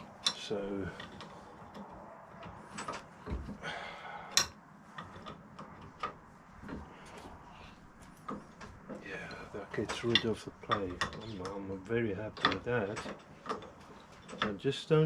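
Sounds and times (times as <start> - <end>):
metal tools clicking and knocking: 0.0 - 3.6, 4.3 - 6.9, 8.0 - 15.0.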